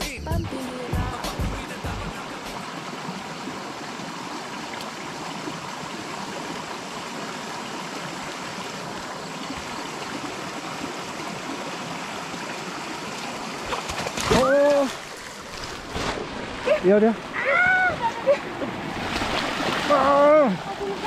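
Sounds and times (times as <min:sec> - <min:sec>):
stream rushing over rocks: 0:00.5 - 0:21.0.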